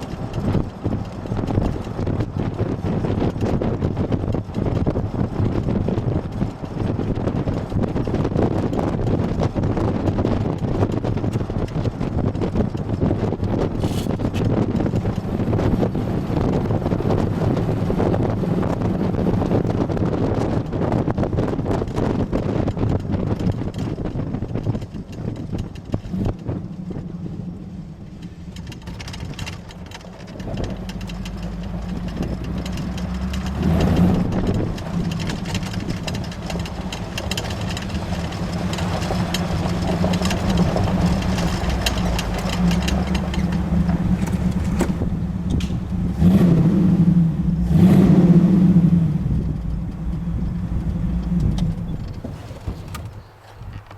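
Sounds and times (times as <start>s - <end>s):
car engine running: 0.0s - 53.9s.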